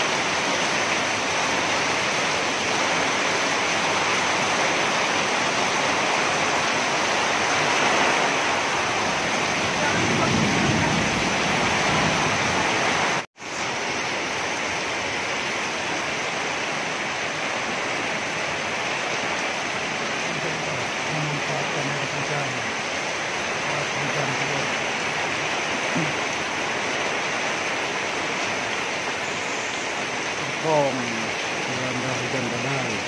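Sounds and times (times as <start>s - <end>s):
heavy rain on roofs: 0.0s - 33.0s
runoff pouring off roof: 0.0s - 33.0s.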